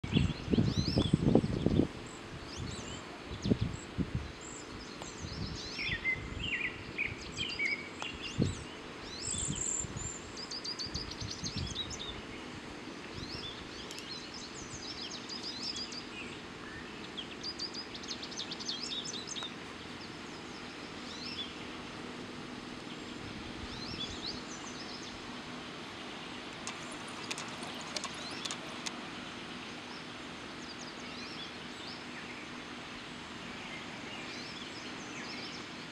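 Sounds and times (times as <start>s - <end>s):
small birds chirping: 0.0s - 21.9s, 22.5s - 35.9s
outdoor background noise: 0.0s - 35.9s.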